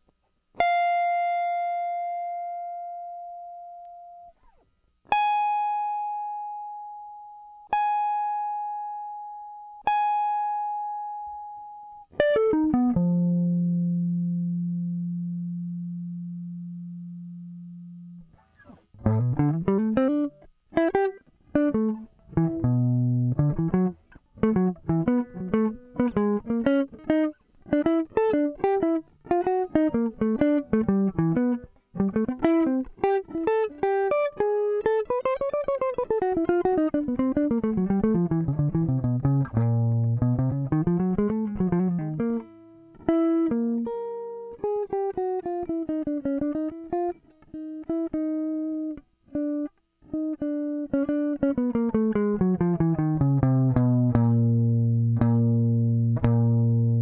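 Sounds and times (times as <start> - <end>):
clean electric guitar notes: 9.9 - 57.0.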